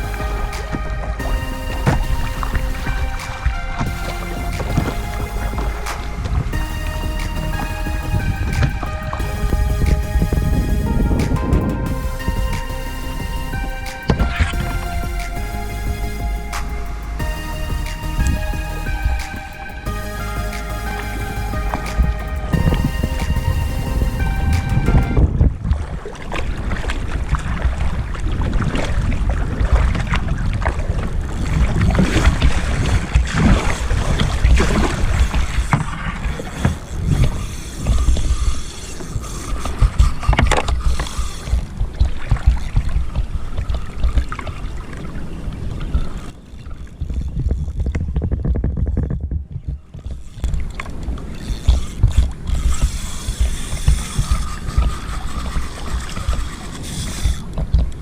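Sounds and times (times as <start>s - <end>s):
wind rumbling on microphone: 0.0s - 58.0s.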